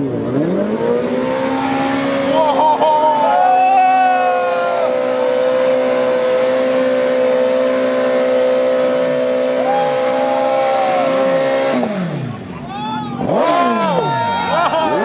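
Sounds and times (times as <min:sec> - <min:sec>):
second engine revving: 0:00.0 - 0:03.2, 0:04.2 - 0:15.0
motorcycle engine at high revs: 0:00.0 - 0:03.3, 0:04.5 - 0:15.0.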